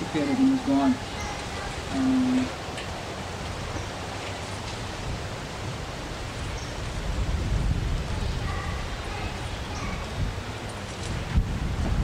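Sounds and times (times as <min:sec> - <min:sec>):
low wind rumble on microphone: 0:00.0 - 0:12.0
steady hiss: 0:00.0 - 0:12.0.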